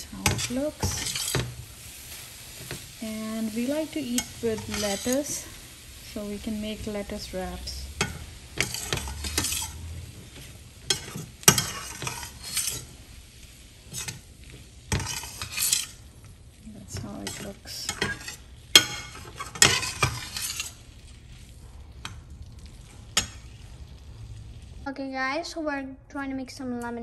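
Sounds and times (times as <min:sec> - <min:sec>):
spatula scraping a frying pan: 0:00.0 - 0:24.0
food sizzling: 0:00.0 - 0:25.5.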